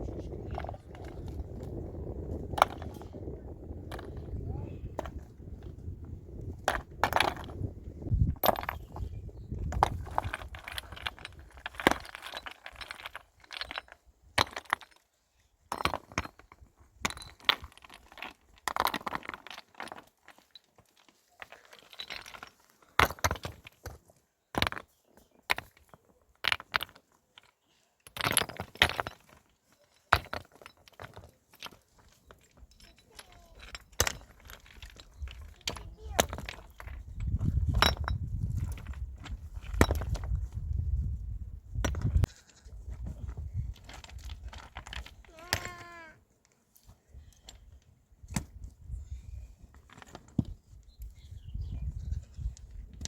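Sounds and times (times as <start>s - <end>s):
stones clinking and scraping: 0.0s - 15.1s, 15.7s - 46.2s, 49.7s - 53.0s.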